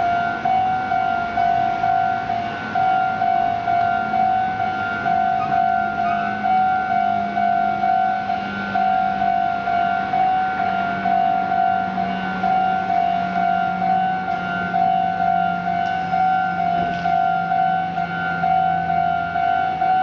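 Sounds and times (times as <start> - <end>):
level crossing alarm bell: 0.0 - 20.0.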